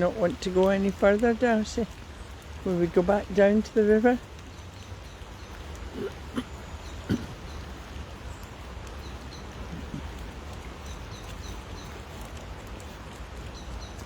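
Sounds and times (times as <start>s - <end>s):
rain falling: 0.0s - 14.0s
small birds chirping: 0.0s - 14.0s.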